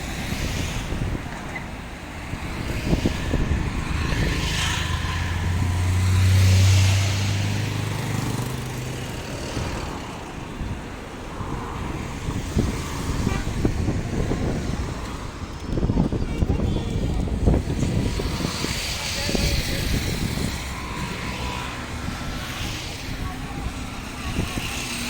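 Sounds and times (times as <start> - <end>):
vehicle engine humming: 0.0 - 25.0
wind noise: 0.0 - 25.0.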